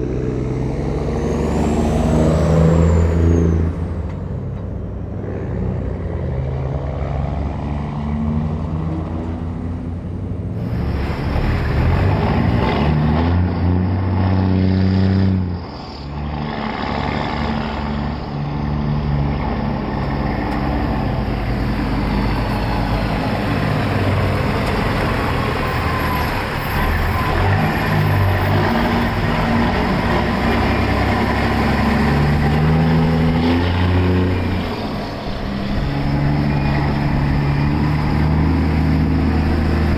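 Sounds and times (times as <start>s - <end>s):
diesel truck engine: 0.0s - 39.9s
road and tyre noise: 0.0s - 39.9s.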